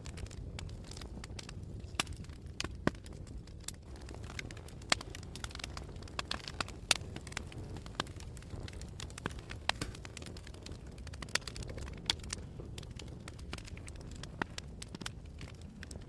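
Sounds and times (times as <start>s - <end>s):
fire crackles and pops: 0.0s - 16.0s
fire low rumble: 0.0s - 16.0s.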